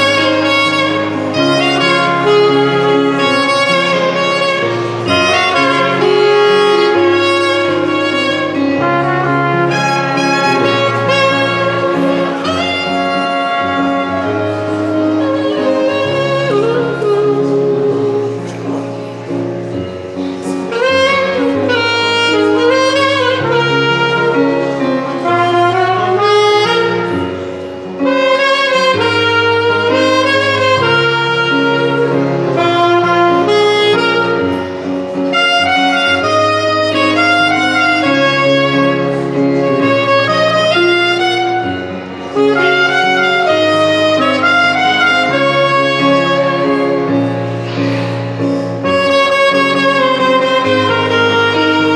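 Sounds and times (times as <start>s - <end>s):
instrumental music with vibrato melody: 0.0s - 51.9s.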